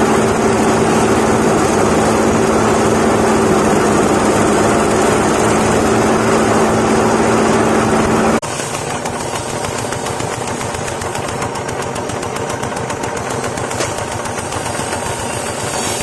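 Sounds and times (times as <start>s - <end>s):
grinding mill droning: 0.0s - 16.0s.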